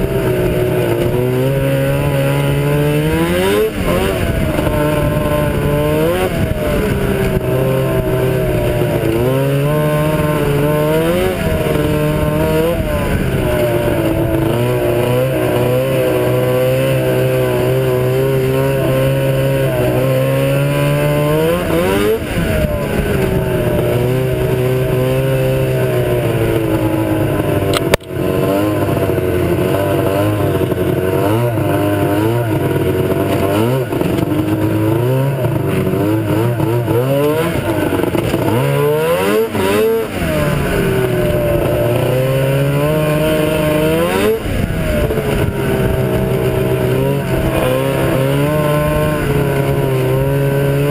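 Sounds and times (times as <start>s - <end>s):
snowmobile engine revving: 0.0s - 50.9s.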